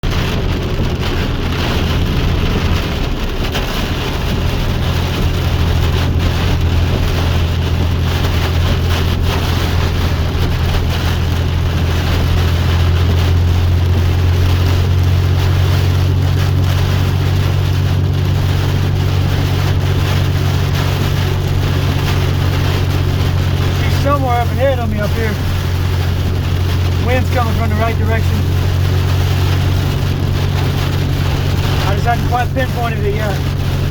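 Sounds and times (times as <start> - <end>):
hiss of rain or wind: 0.0 - 33.9
road noise: 0.0 - 33.9
vehicle engine drone: 0.0 - 33.9.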